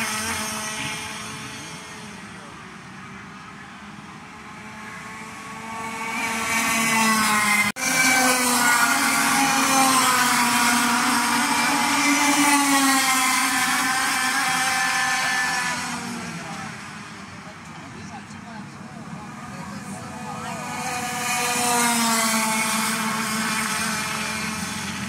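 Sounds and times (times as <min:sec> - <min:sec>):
go-kart engines whining past: 0:00.0 - 0:25.0.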